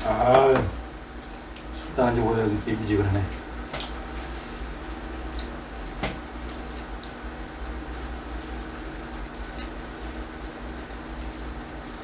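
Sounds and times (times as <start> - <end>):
meat sizzling on electric grill: 0.0 - 12.0.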